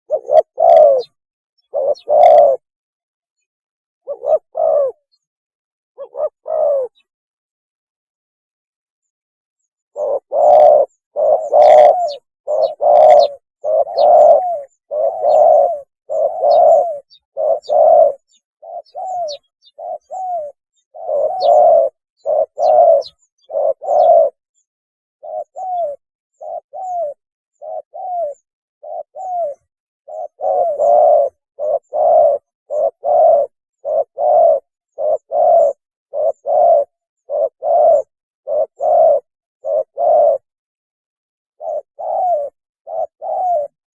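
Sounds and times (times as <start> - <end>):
dove cooing: 0.0 - 2.7, 4.0 - 5.2, 6.0 - 7.1, 9.9 - 24.4, 25.2 - 40.5, 41.6 - 43.8.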